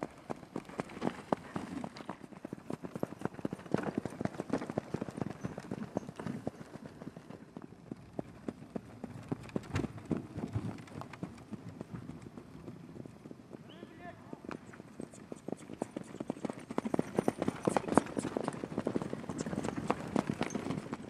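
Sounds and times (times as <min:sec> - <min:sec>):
horses' hooves clip-clopping: 0:00.0 - 0:21.0.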